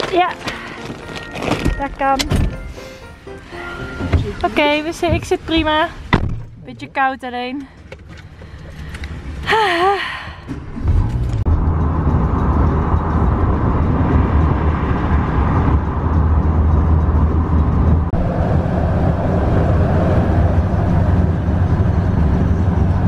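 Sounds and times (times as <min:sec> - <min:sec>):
car road and engine drone: 0:00.0 - 0:23.0.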